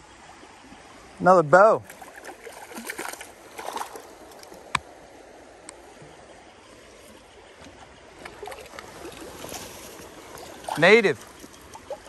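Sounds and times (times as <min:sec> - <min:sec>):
creek water rippling: 0:00.0 - 0:12.0.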